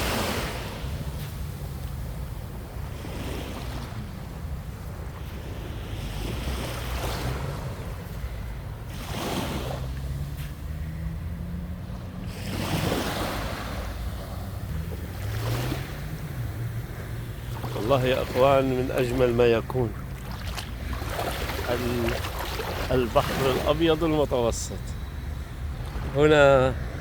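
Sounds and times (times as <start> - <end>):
waves washing onto beach: 0.0 - 27.0.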